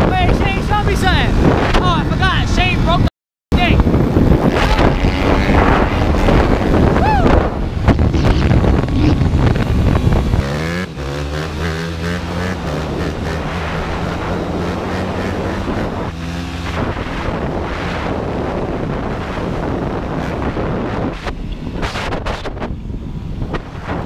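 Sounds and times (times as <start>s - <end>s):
dirt bike engine running: 0.0s - 24.0s
wind buffeting microphone: 0.0s - 24.0s.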